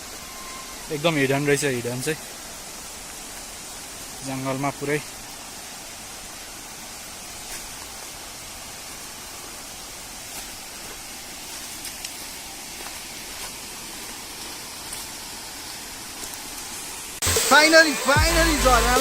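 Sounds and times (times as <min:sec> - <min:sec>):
waterfall rushing hiss: 0:00.0 - 0:19.0.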